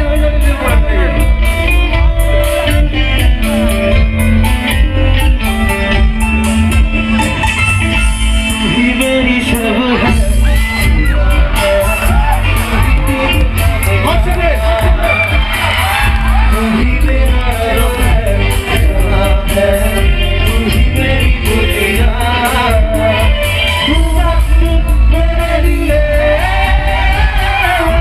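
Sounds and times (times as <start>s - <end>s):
man singing: 0.0s - 6.1s, 8.5s - 28.0s
drums: 0.0s - 28.0s
electric bass guitar: 0.0s - 28.0s.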